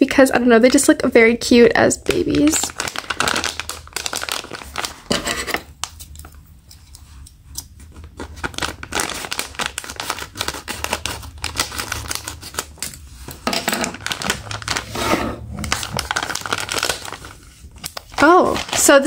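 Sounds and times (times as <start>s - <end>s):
plastic bag crinkling: 2.0s - 6.4s, 8.0s - 19.0s.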